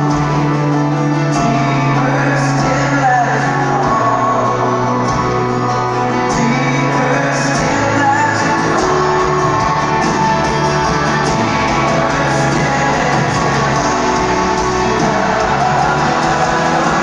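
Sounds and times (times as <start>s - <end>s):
person singing: 0.0s - 17.0s
worship band over loudspeakers: 0.0s - 17.0s.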